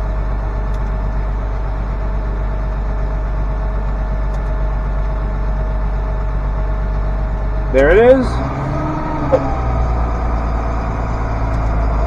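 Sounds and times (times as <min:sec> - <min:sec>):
diesel tractor engine idling: 0:00.0 - 0:12.0.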